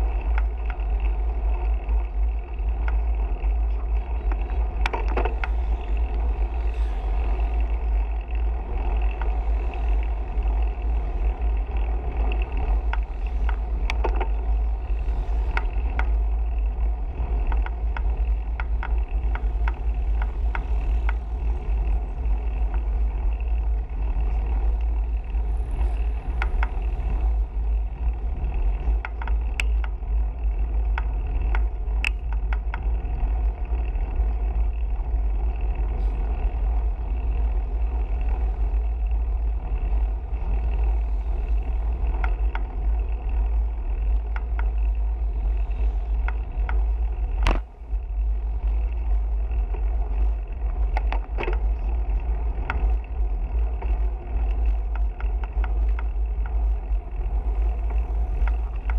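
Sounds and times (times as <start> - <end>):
bicycle road noise: 0.0 - 58.9
sharp clicks and rattles: 0.0 - 58.9
wind rumble: 0.0 - 58.9.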